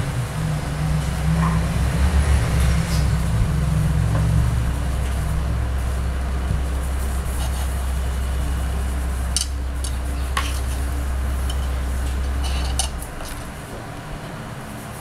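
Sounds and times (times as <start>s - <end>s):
hot air station blowing: 0.0s - 15.0s.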